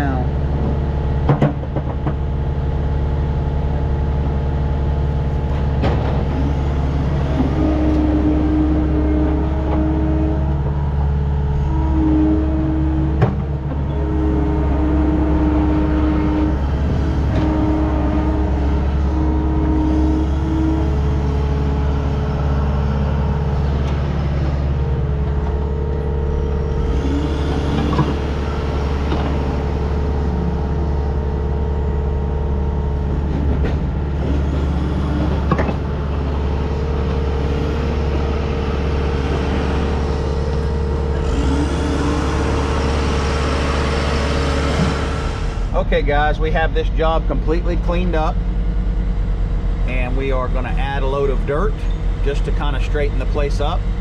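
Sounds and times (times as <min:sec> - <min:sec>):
diesel engine running under load: 0:00.0 - 0:54.0
whine: 0:02.6 - 0:54.0.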